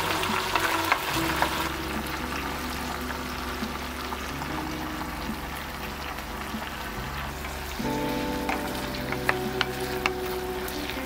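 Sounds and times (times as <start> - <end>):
shrimp sizzling in oil: 0.0 - 11.0
soft background music: 0.0 - 11.0.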